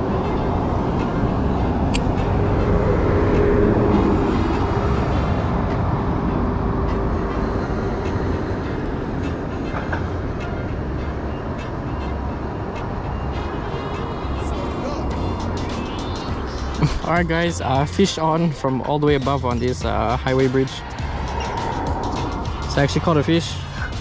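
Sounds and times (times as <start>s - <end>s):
road traffic rumble: 0.0s - 24.0s
vehicle passing: 0.0s - 24.0s.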